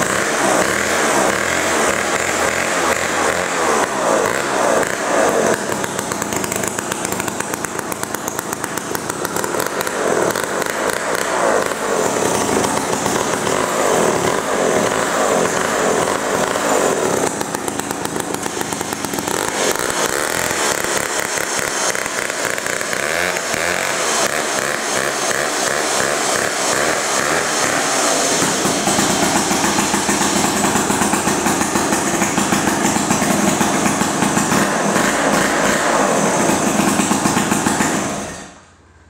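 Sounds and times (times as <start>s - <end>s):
chainsaw engine revving: 0.0s - 39.0s.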